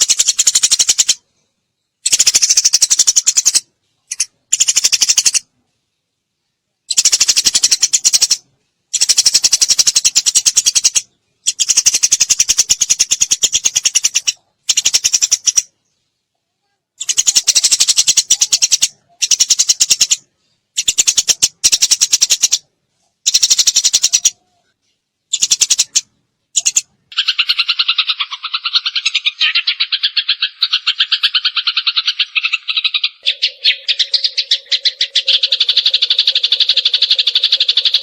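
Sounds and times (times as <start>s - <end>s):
sparrow chirping in rattling runs: 0.0s - 1.2s, 2.0s - 5.5s, 6.9s - 8.4s, 9.0s - 15.7s, 17.0s - 22.6s, 23.2s - 24.4s, 25.3s - 38.0s.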